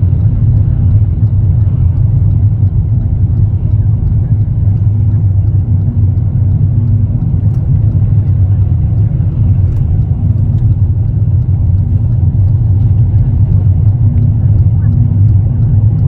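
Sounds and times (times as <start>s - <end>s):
road and engine rumble in a vehicle: 0.0s - 16.0s.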